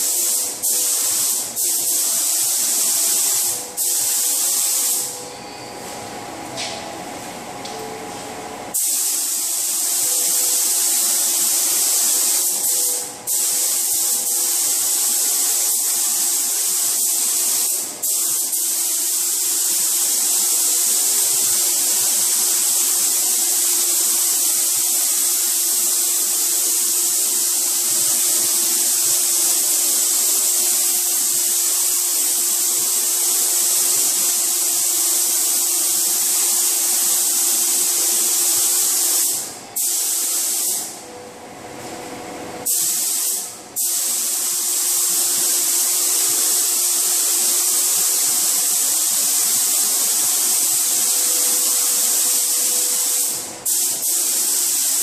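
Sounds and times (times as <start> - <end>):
spray gun hissing: 0.0 - 5.2, 8.7 - 41.0, 42.6 - 55.0.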